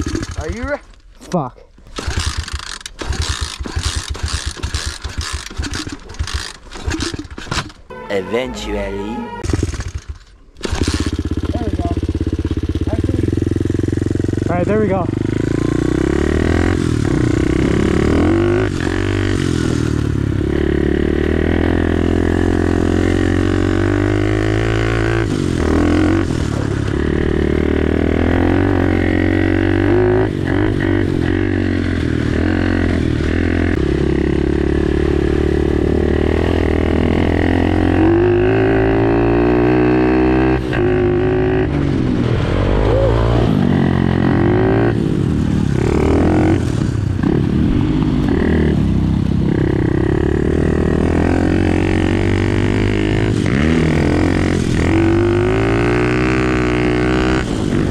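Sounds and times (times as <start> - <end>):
dirt bike engine revving: 0.0 - 0.7, 1.9 - 57.9.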